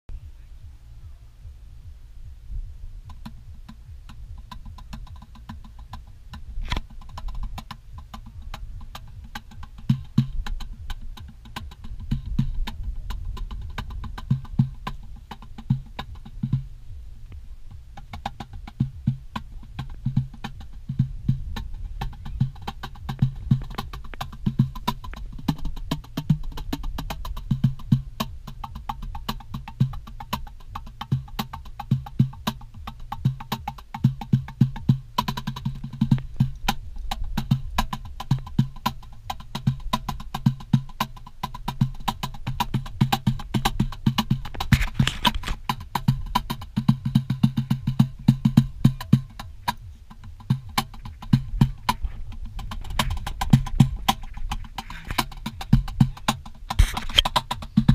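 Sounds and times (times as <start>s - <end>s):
cajon deep bass strokes: 0.0s - 57.9s
cajon slaps and taps: 3.1s - 16.7s, 17.3s - 57.9s.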